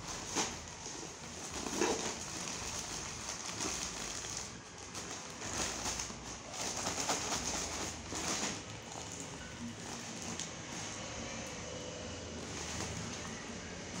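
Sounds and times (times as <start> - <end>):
plastic mailer bag crinkling: 0.0 - 11.1, 12.4 - 14.0.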